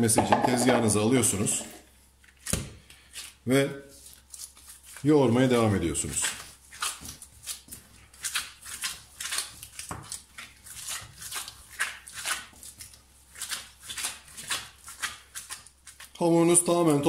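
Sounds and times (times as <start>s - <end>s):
dough kneading squishing: 0.5s - 17.0s.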